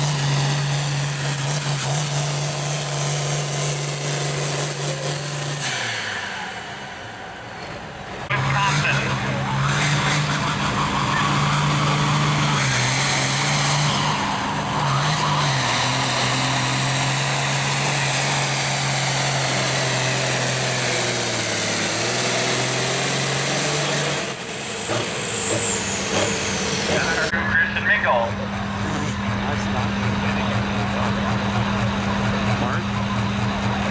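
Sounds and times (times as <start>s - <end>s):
tractor engine under load: 0.0s - 33.9s.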